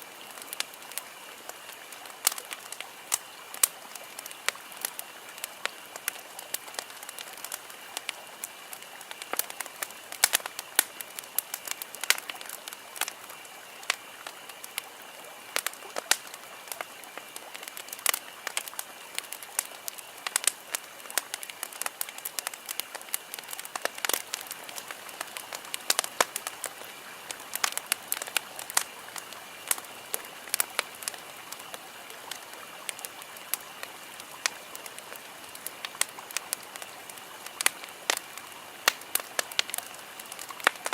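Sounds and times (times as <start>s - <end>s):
campfire crackling and popping: 0.0s - 40.9s
soft hiss of burning: 0.0s - 40.9s.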